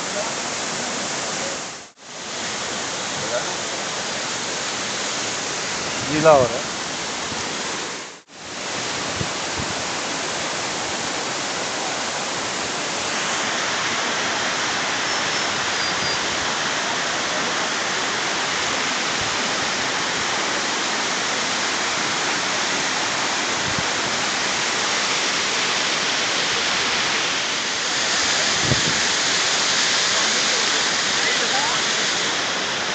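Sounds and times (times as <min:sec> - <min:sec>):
waterfall splashing over rocks: 0:00.0 - 0:32.9.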